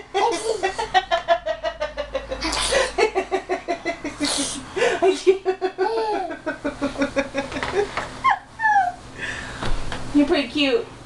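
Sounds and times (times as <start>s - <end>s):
person laughing hard: 0.0s - 9.0s.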